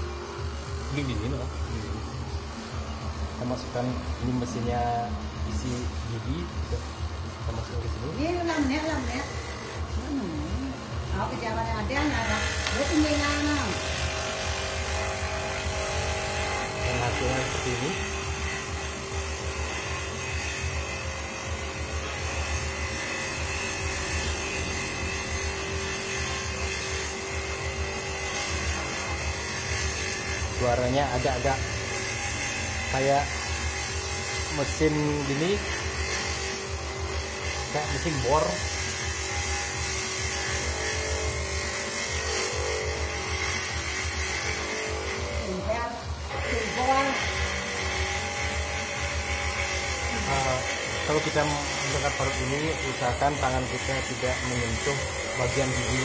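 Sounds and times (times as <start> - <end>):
coconut grater grinding buzz: 0.0 - 56.0.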